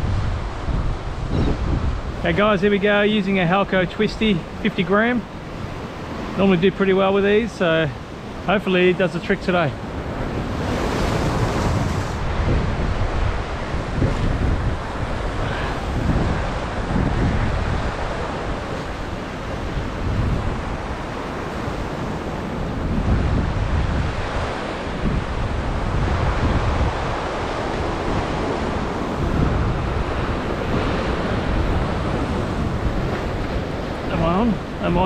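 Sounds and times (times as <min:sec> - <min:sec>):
wind buffeting microphone: 0:00.0 - 0:08.5, 0:09.5 - 0:35.0
ocean surf washing over rocks: 0:00.0 - 0:35.0.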